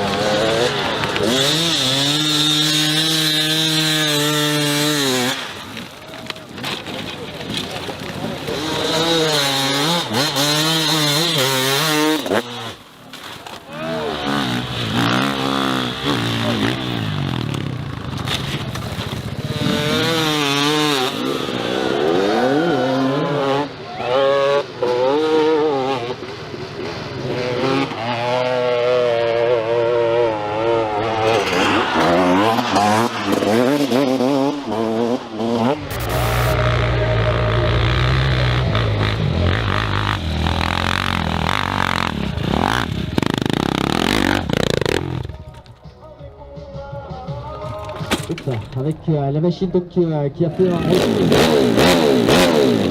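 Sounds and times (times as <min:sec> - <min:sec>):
dirt bike engines revving: 0:00.0 - 0:45.8, 0:47.7 - 0:52.9.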